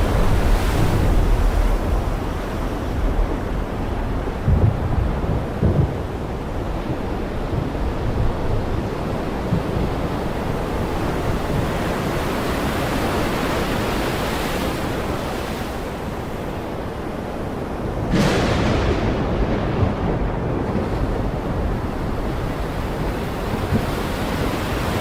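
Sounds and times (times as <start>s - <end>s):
heavy rain pouring: 0.0s - 13.9s, 17.6s - 25.0s.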